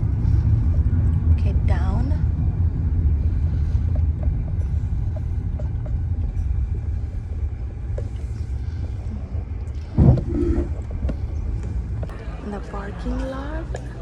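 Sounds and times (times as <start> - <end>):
car rumbling inside cabin: 0.0 - 12.1.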